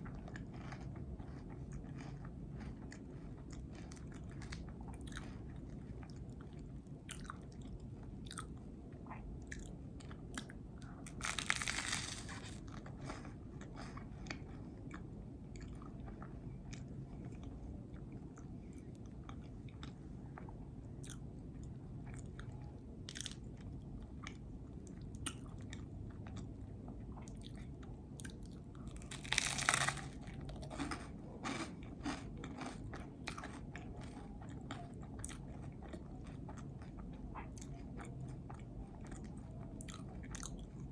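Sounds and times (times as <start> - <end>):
close chewing with wet mouth clicks: 0.0 - 21.2, 22.1 - 40.9.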